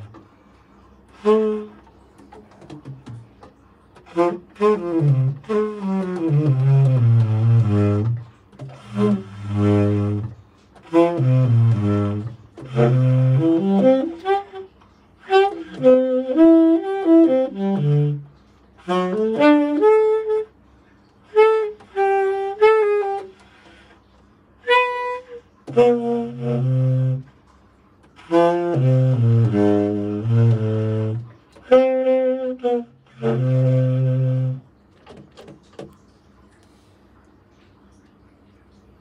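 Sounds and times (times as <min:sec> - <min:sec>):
tenor saxophone solo: 0:00.0 - 0:35.9.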